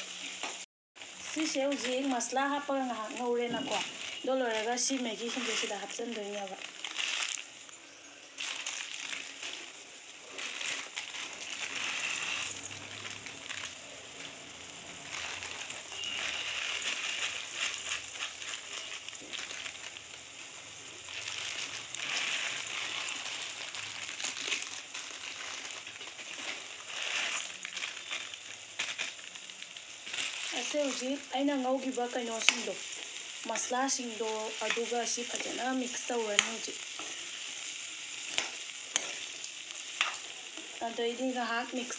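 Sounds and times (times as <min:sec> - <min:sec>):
dry noodles crackling: 0:00.0 - 0:41.9
plastic packet crinkling: 0:00.1 - 0:41.9.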